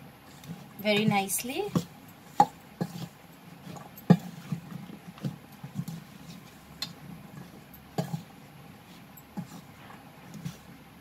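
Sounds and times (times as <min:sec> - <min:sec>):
food scraping and rustling in bowl: 0:00.2 - 0:11.0.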